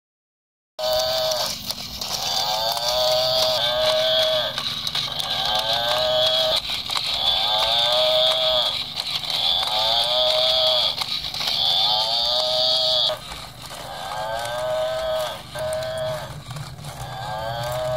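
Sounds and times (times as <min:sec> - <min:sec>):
toy mooing through speaker: 0:00.8 - 0:01.5, 0:02.1 - 0:06.6, 0:07.2 - 0:17.9
toy motor whirring: 0:00.8 - 0:17.9.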